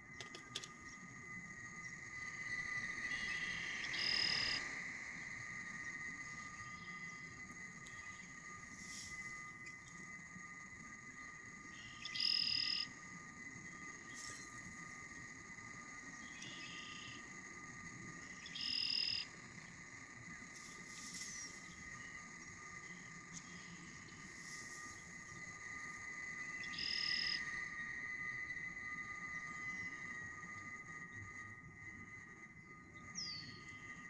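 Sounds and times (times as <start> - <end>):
electronic drone of high tones: 0.0 - 34.0.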